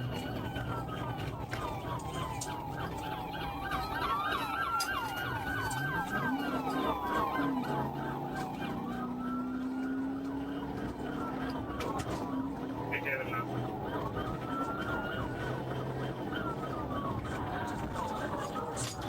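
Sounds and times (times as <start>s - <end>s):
fast yelping siren: 0.0s - 19.0s
vehicle engine revving: 0.0s - 19.0s
wailing siren: 0.0s - 19.0s.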